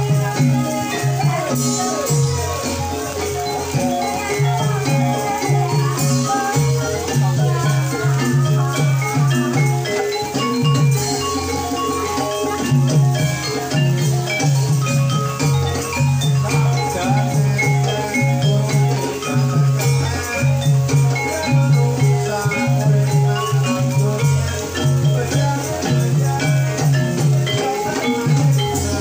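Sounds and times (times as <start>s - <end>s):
gamelan music: 0.0s - 29.0s.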